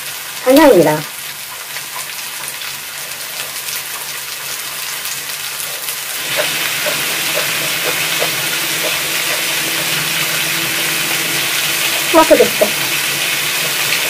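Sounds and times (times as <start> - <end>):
meat sizzling on a grill pan: 1.1 - 14.0.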